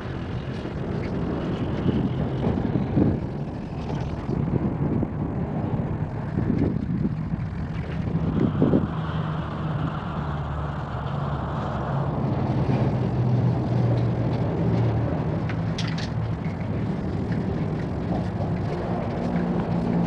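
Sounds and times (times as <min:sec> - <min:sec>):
engine drone: 0:00.0 - 0:20.0
low rumble of traffic: 0:00.0 - 0:20.0.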